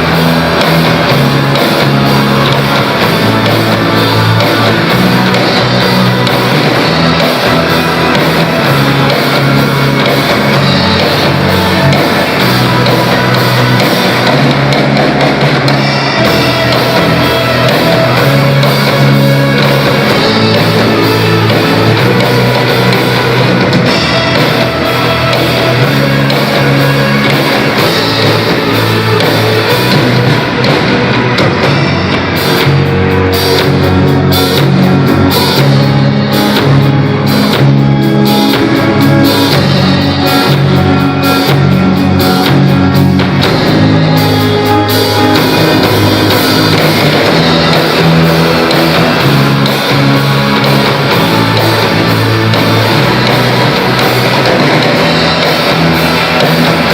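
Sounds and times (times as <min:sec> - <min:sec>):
drum kit: 0:00.0 - 0:56.9
electric guitar: 0:00.0 - 0:56.9
rock band playing: 0:00.0 - 0:56.9.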